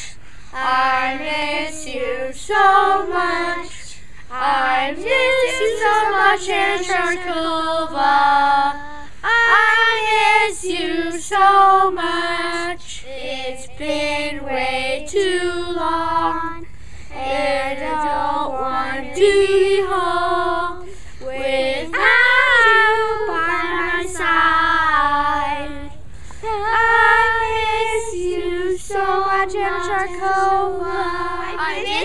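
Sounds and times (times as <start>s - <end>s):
children singing a cappella: 0.0s - 32.0s.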